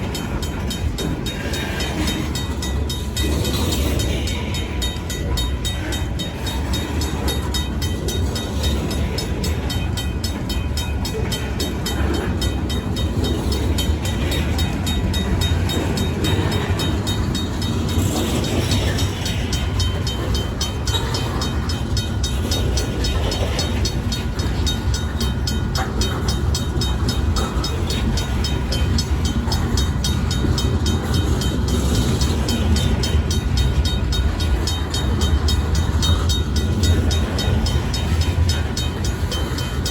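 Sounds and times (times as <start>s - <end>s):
crossing bell ringing: 0.0s - 39.9s
freight cars rolling: 0.0s - 39.9s.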